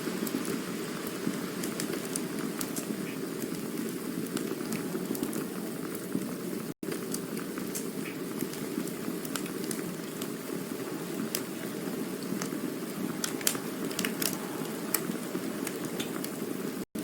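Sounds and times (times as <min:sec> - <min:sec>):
campfire hissing: 0:00.0 - 0:17.0
fire crackling and popping: 0:00.0 - 0:17.0.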